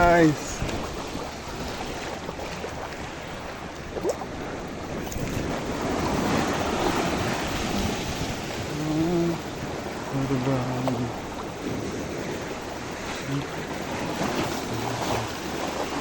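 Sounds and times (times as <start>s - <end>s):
water sloshing around kayak: 0.0s - 16.0s
wind buffeting microphone: 0.0s - 16.0s.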